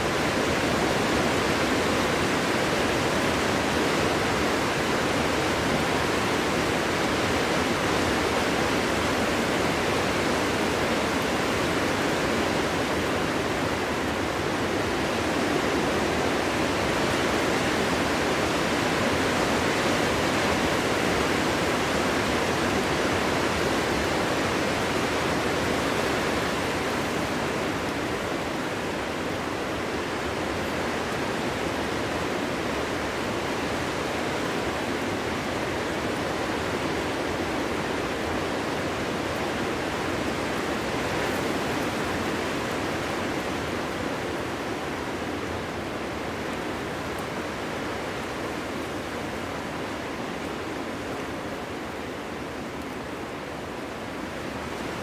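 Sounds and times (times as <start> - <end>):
wind blowing through forest: 0.0 - 55.0.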